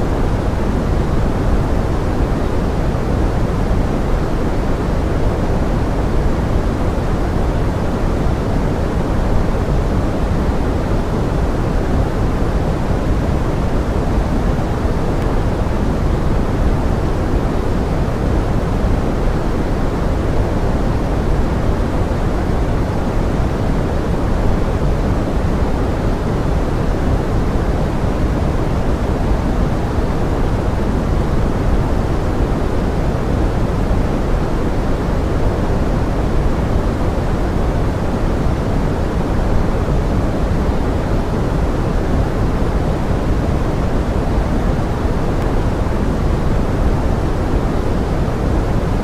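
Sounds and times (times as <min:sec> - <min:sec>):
steady pink noise hiss: 0:00.0 - 0:49.0.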